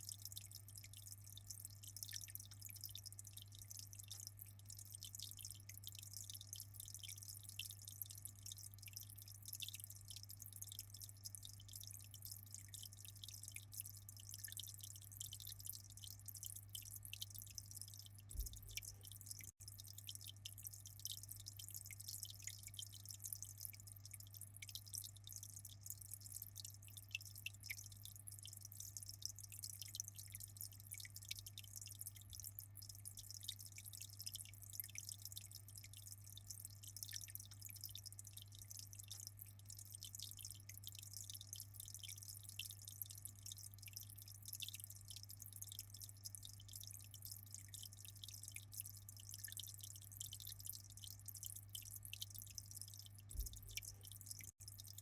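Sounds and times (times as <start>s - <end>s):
low electric pump hum: 0.0s - 55.0s
water trickling and dripping: 0.0s - 55.0s.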